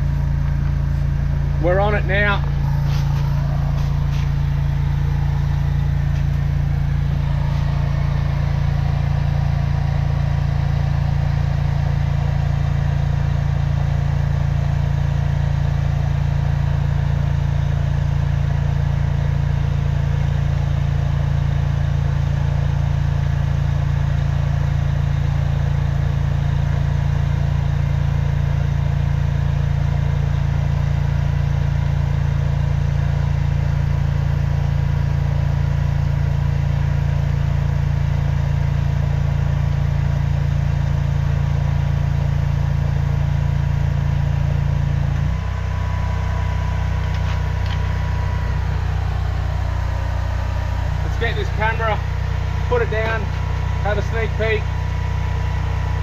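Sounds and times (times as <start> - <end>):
drain jetter engine droning: 0.0 - 56.0.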